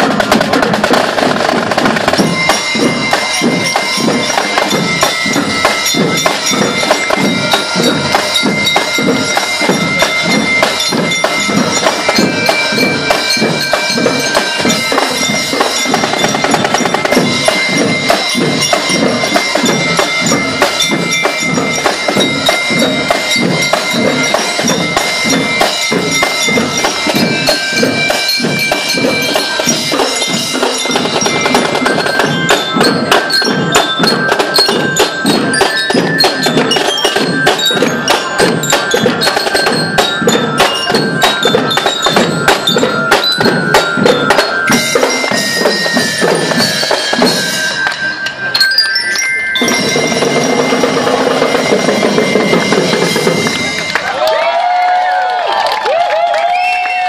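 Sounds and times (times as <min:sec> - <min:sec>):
marching snare drums: 0:00.0 - 0:48.0, 0:49.6 - 0:54.0
tom-toms: 0:00.0 - 0:54.0
cymbals: 0:00.0 - 0:54.4
held high notes: 0:01.6 - 0:57.0.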